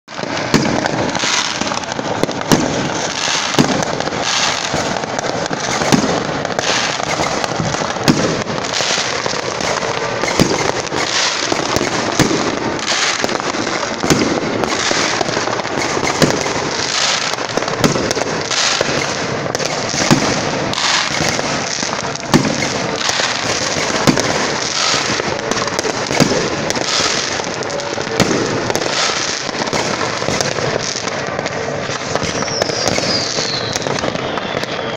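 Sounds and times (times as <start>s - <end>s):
firecracker bangs: 0.1s - 34.9s
fireworks crackling: 0.1s - 34.9s.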